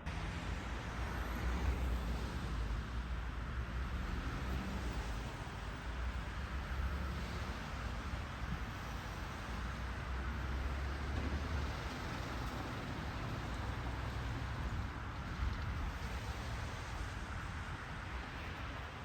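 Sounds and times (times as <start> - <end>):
rumble of passing vehicles: 0.0 - 19.0
traffic noise: 0.0 - 19.0.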